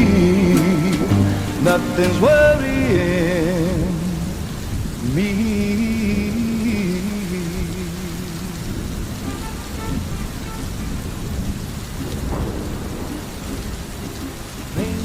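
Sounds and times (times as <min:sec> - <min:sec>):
low rumble of thunder: 0:00.0 - 0:15.0
steady rain falling: 0:00.0 - 0:15.0.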